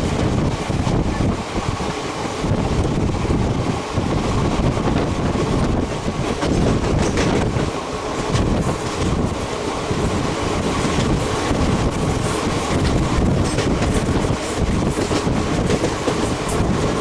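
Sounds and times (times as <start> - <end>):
train wheels rumbling on rails: 0.0 - 17.0
wind buffeting microphone: 0.0 - 17.0.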